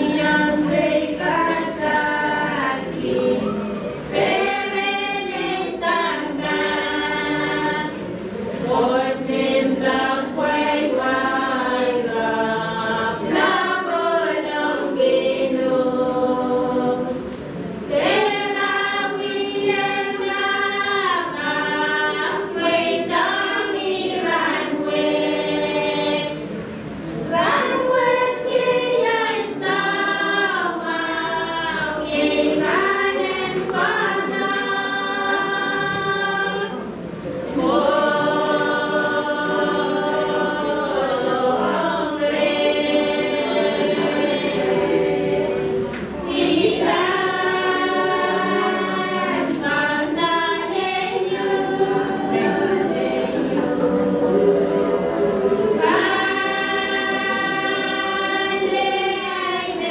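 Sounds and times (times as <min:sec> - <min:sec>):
group singing in harmony: 0:00.0 - 0:59.9.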